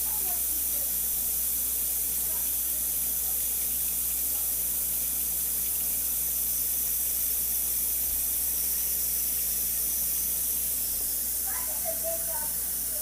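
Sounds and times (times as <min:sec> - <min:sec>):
tap water running into glass: 0:00.0 - 0:13.0.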